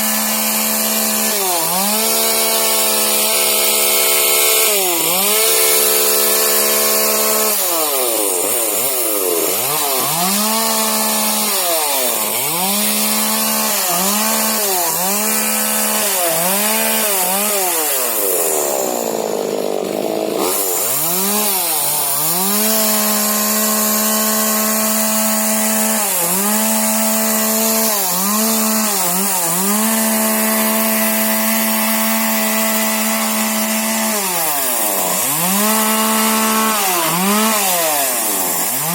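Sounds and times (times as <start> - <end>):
chainsaw cutting branch: 0.0 - 38.9
chainsaw revving: 0.0 - 38.9.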